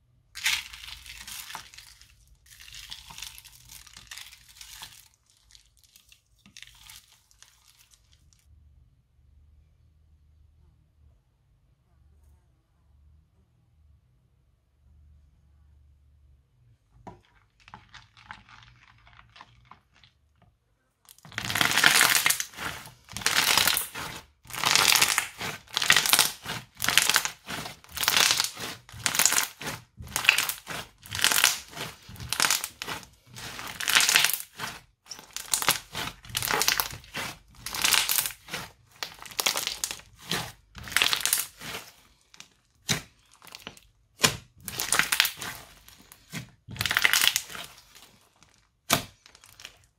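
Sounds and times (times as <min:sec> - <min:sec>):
slime crunching and crackling: 0:00.4 - 0:08.4, 0:17.2 - 0:20.4, 0:21.1 - 0:49.9.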